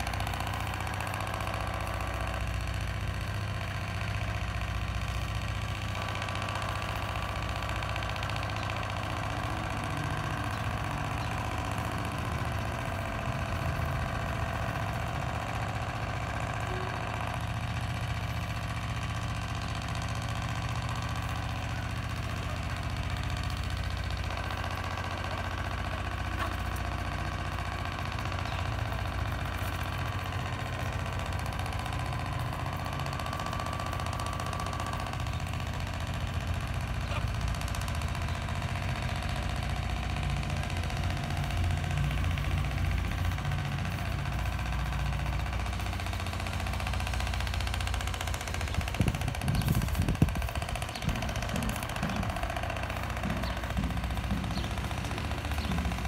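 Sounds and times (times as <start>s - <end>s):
motor humming steadily: 0.0s - 56.0s.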